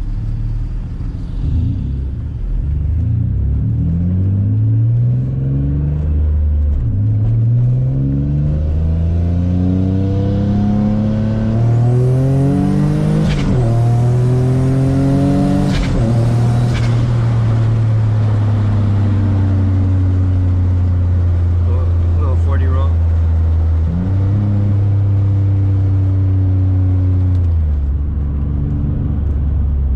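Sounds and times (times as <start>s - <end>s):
car engine accelerating: 0.0s - 29.9s.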